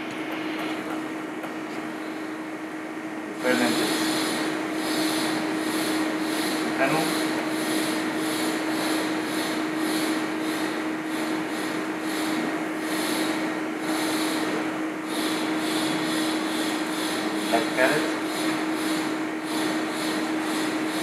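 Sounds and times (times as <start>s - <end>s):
machine hum and hiss: 0.0s - 21.0s.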